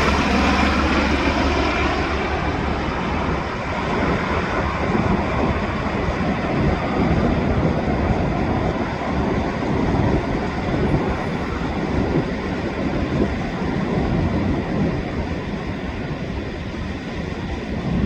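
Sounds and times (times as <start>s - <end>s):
helicopter rotor and turbine: 0.0s - 18.0s.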